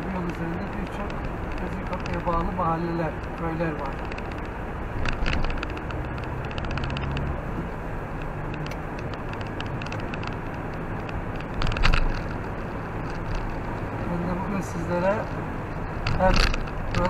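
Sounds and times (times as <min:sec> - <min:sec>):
car engine hum and tyre noise: 0:00.0 - 0:17.0.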